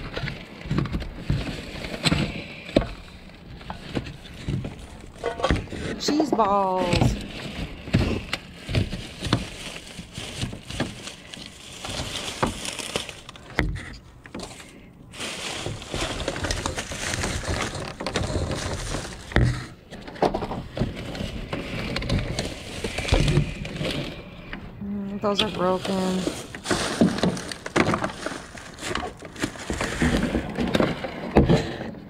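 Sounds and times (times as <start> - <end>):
items knocking: 0.0 - 14.6, 15.2 - 24.6, 25.2 - 32.0
plastic bags rustling: 0.0 - 32.0.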